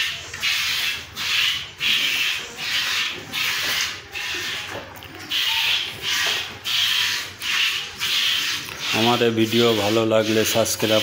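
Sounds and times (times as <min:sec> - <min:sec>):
milk squirting into a pail: 0:00.0 - 0:11.0.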